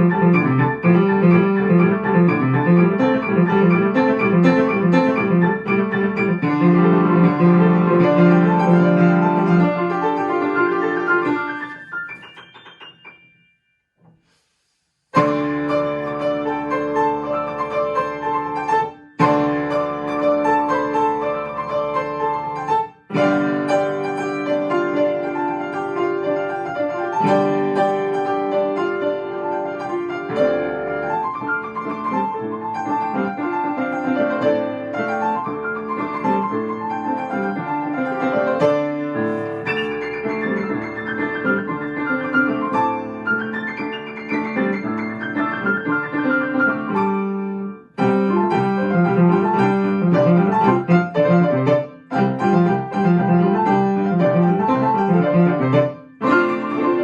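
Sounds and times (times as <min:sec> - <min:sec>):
piano playing quick notes: 0:00.0 - 0:14.5, 0:15.1 - 0:57.0.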